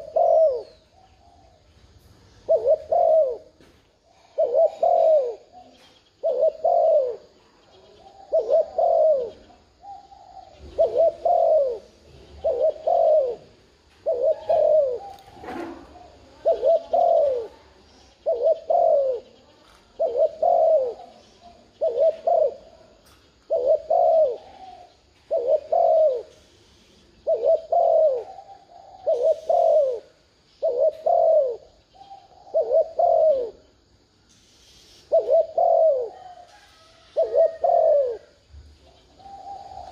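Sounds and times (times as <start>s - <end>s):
dove cooing: 0.0s - 33.9s, 34.5s - 39.9s.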